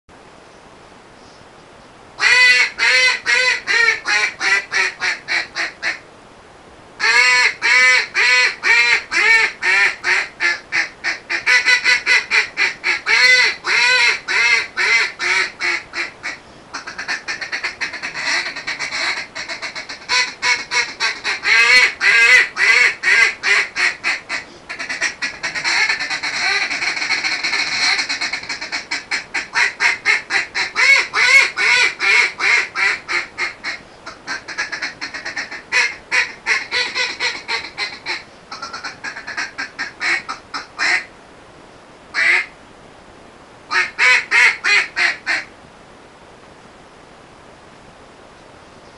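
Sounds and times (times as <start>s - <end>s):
duck call quacking: 2.2s - 6.0s, 7.0s - 41.1s, 42.2s - 42.5s, 43.7s - 45.5s.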